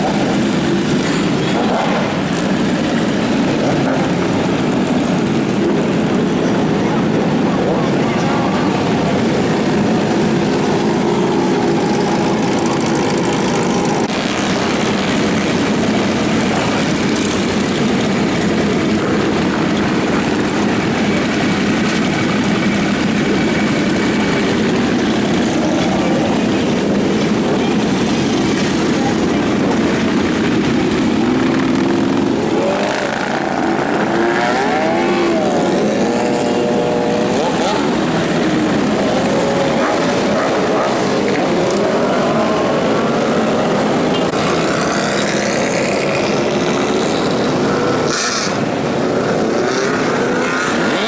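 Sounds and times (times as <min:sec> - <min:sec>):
motorcycle engines droning and revving: 0:00.0 - 0:51.0.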